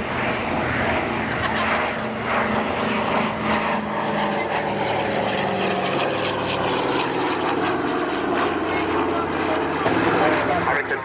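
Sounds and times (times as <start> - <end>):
propeller plane droning past: 0.0 - 11.0.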